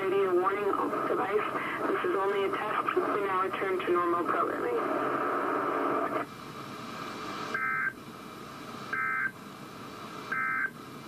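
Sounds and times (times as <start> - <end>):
loud radio hiss: 0.0 - 11.0.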